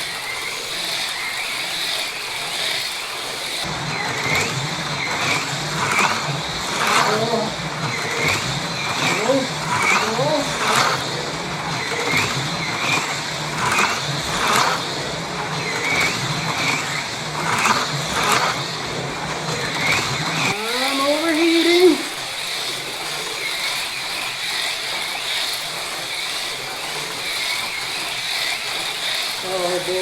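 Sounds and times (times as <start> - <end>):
slot car motor whine: 0.0 - 30.0.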